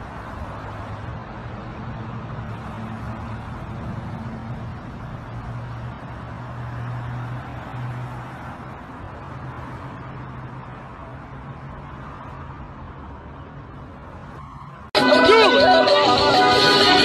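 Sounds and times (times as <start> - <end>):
street noise: 0.0 - 17.0
vehicle engine humming: 0.0 - 17.0.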